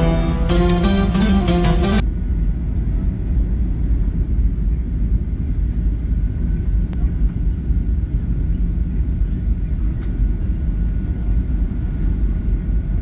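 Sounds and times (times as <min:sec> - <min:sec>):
airliner rumble: 0:00.0 - 0:13.0
faint steady whine: 0:00.0 - 0:13.0.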